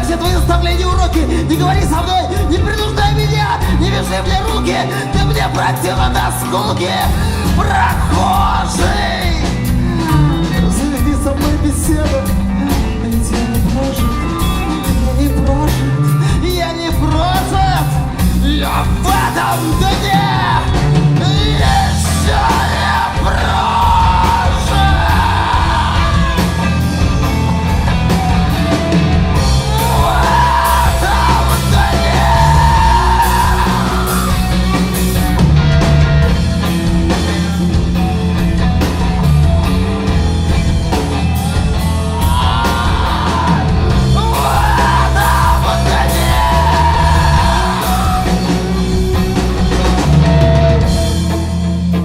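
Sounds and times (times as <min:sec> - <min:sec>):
singer yelling vocals: 0:00.0 - 0:28.2, 0:29.3 - 0:35.4, 0:41.1 - 0:50.9
rock band playing loudly: 0:00.0 - 0:52.0.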